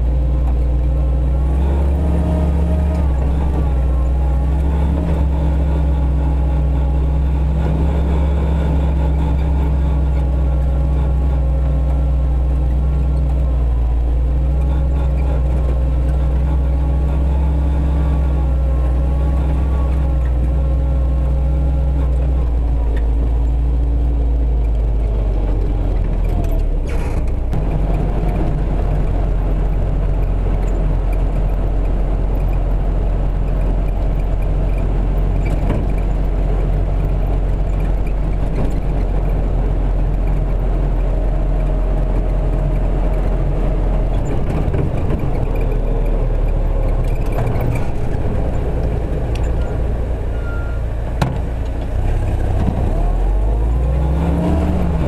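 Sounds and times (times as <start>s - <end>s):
jeep engine running: 0.0s - 55.0s.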